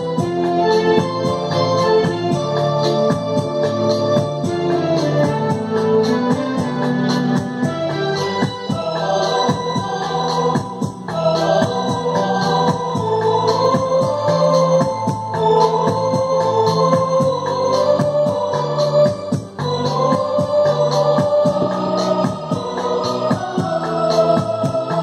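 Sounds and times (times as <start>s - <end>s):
held bass notes: 0.0s - 25.0s
organ-like keyboard melody: 0.0s - 25.0s
steady drum beat: 0.0s - 25.0s.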